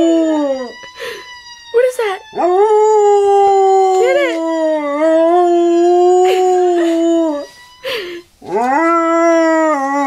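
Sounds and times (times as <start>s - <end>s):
dog howling: 0.0s - 7.5s, 8.4s - 10.0s.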